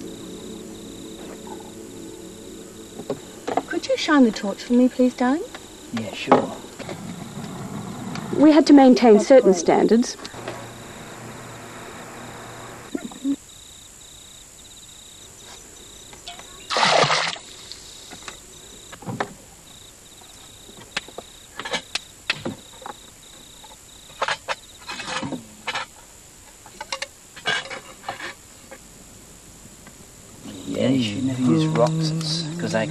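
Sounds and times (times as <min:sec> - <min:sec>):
insect trill: 0:00.0 - 0:32.9.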